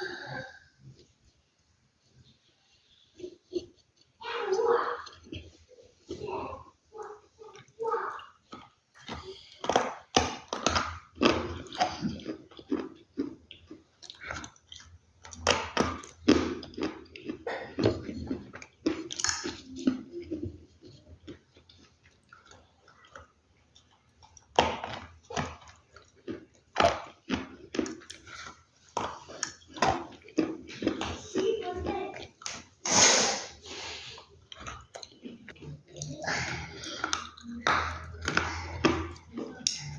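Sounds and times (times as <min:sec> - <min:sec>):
crunching and chewing: 0:05.0 - 0:06.3, 0:07.0 - 0:32.8, 0:33.7 - 0:39.9.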